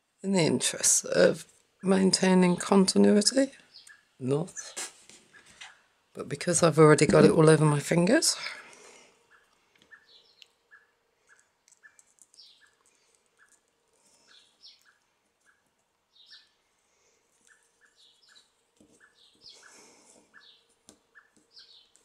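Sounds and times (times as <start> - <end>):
songbirds chirping: 0.4 - 22.0.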